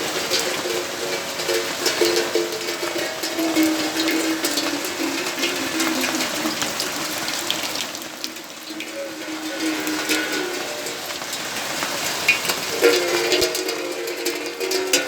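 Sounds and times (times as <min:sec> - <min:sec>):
rain ticking on hard surfaces: 0:00.0 - 0:15.0.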